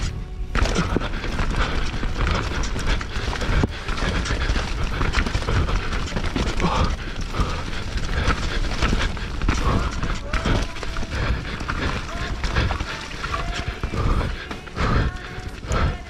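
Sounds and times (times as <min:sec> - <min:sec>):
bike chain and frame clatter: 0:00.0 - 0:16.0
tyre noise: 0:00.0 - 0:16.0.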